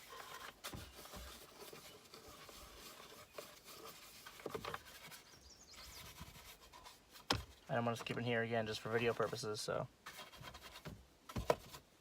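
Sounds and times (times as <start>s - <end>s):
brush scrubbing plastic: 0.0s - 11.8s.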